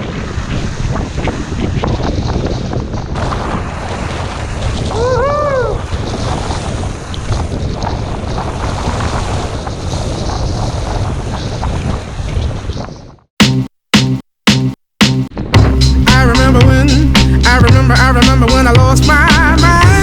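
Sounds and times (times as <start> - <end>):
rough water splashing: 0.0 - 12.8, 15.3 - 20.0
wind buffeting microphone: 0.0 - 13.3, 15.3 - 18.2.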